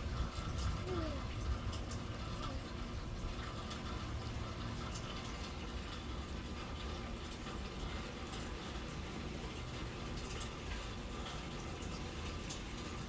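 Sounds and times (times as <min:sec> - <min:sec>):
steady rain falling: 0:00.0 - 0:13.0
water dripping: 0:00.0 - 0:13.0.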